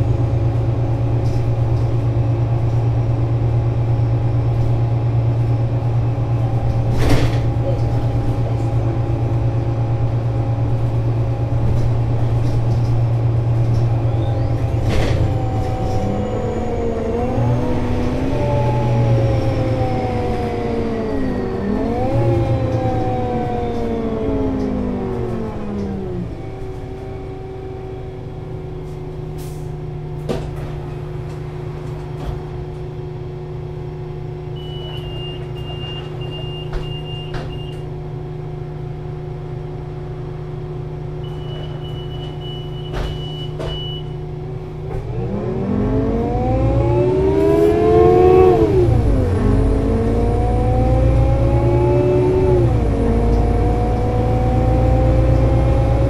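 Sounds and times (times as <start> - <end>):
bus diesel engine idling: 0.0 - 45.1
bus pulling away with gear shifts: 0.0 - 56.0.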